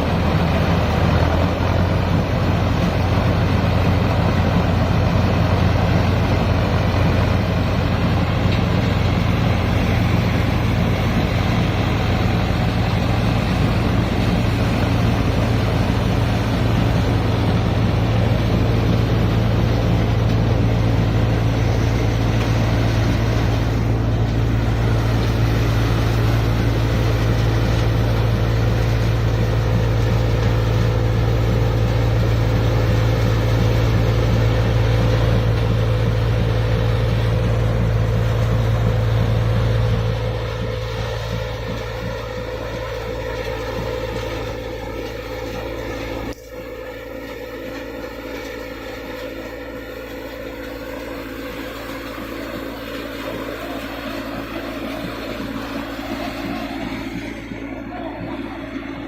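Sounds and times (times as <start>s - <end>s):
harvester machinery: 0.0s - 59.0s
tractor diesel engine droning: 0.0s - 59.0s.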